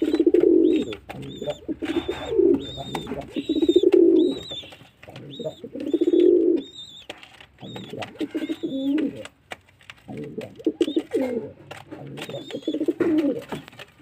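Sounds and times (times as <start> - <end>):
pigeons cooing: 0.0 - 9.4, 10.1 - 13.9.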